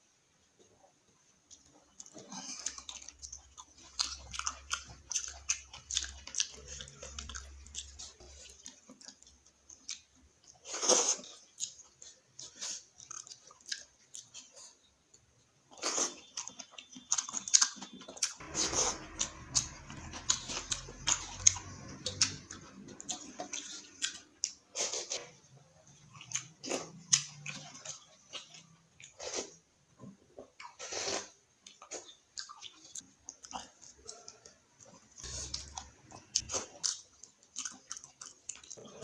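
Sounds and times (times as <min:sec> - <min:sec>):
person chewing food: 0:01.5 - 0:39.0.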